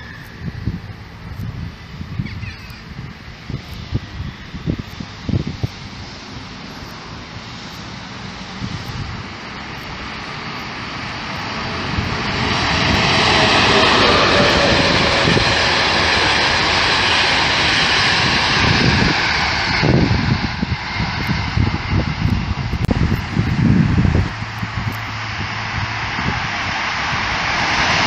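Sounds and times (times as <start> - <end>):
train passing at speed: 0.0 - 28.0
wheel and rail noise: 0.0 - 28.0
wind buffeting microphone: 0.0 - 28.0.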